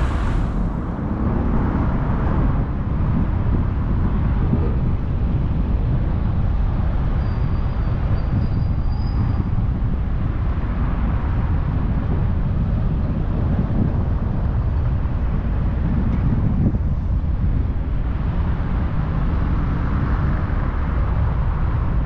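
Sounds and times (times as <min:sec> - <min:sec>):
car driving road rumble: 0:00.0 - 0:22.0.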